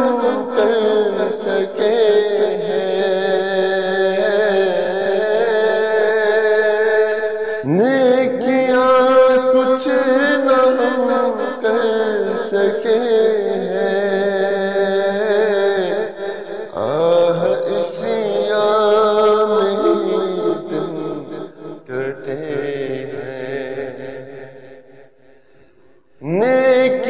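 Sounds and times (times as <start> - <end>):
man chanting: 0.0 - 24.8, 25.7 - 27.0.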